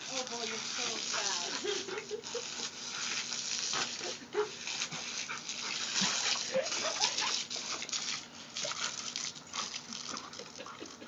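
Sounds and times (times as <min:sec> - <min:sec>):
garden hose spraying: 0:00.0 - 0:11.0.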